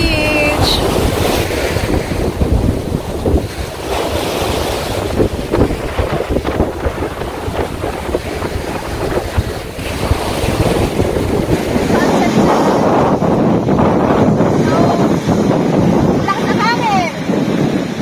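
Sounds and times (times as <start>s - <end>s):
waves breaking on a beach: 0.0s - 18.0s
wind buffeting microphone: 0.0s - 18.0s.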